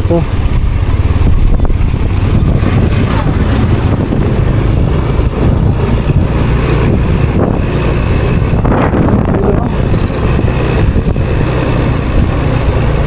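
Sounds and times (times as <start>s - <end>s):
motorcycle engine running: 0.0s - 13.0s
wind noise: 0.0s - 13.0s.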